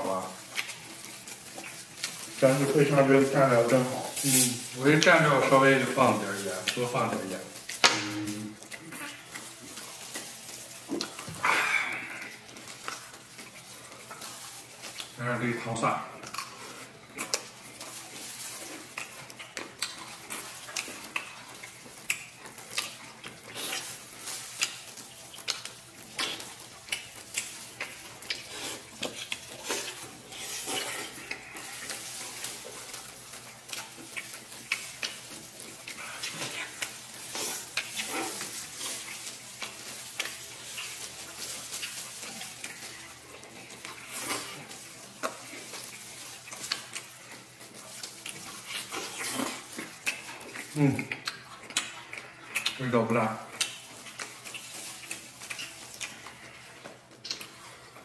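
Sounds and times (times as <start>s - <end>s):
people chewing meat off bone: 0.0s - 58.0s.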